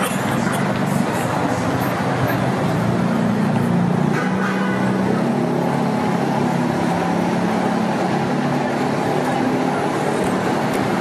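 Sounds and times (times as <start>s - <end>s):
passing cars: 0.0s - 11.0s.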